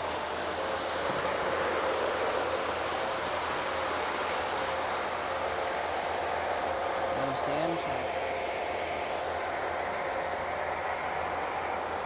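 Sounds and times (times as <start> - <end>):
model trains running on track: 0.0 - 12.0.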